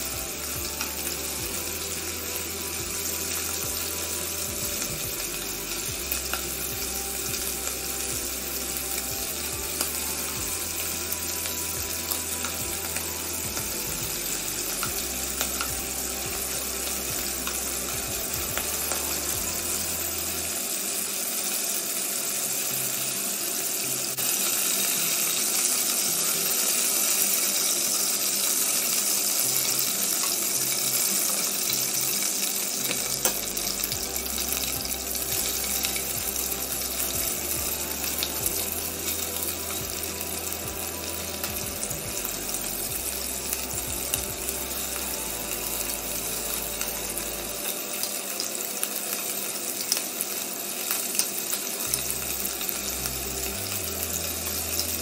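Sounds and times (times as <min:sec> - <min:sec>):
beef sizzling in oil: 0:00.0 - 0:55.0.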